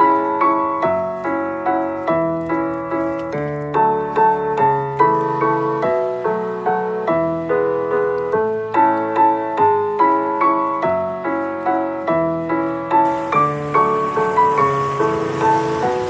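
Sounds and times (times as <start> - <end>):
gentle piano broken chords: 0.0 - 16.0.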